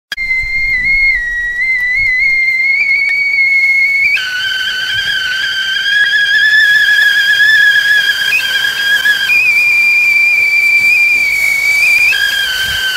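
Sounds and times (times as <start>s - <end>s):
tea kettle whistling: 0.1s - 12.9s
steam hissing: 0.2s - 12.9s.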